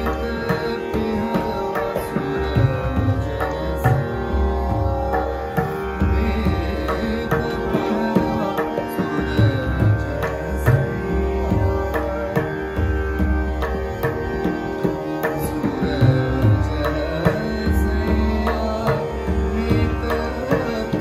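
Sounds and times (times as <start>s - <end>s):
harmonium held tones: 0.0s - 21.0s.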